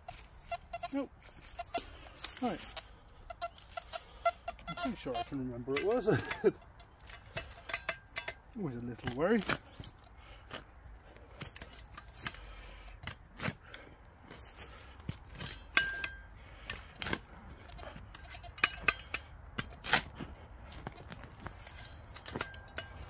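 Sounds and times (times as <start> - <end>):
spade scraping stony ground: 0.0 - 23.0.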